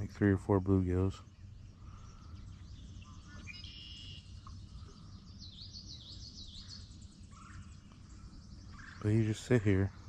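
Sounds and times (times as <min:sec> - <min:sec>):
birds calling: 0:00.0 - 0:10.0
low outdoor rumble: 0:00.0 - 0:10.0.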